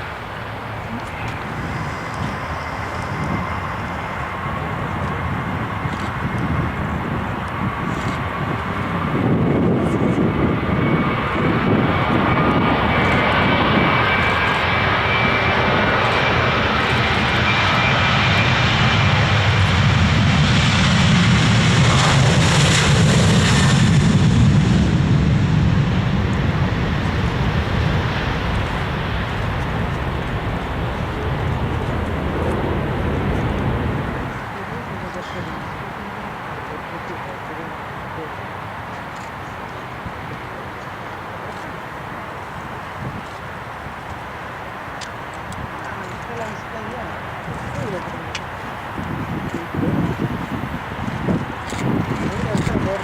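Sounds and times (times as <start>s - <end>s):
airliner engines passing: 0.0s - 53.0s.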